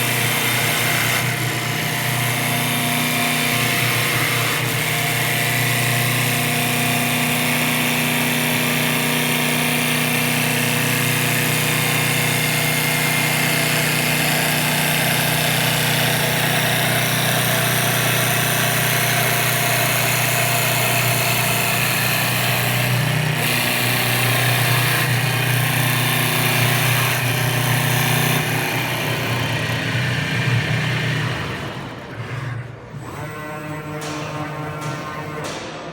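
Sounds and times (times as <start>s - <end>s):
wood lathe motor hum and hiss: 0.0s - 33.8s.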